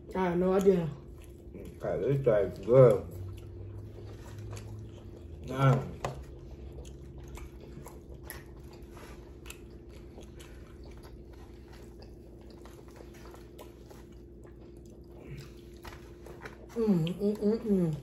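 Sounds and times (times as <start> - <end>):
faint steady hum: 0.0 - 18.0
chewing and biting: 0.4 - 18.0.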